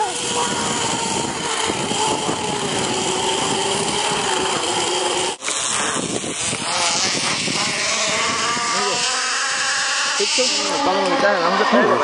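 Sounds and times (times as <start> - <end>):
zipline pulleys whirring on cable: 0.0 - 12.0.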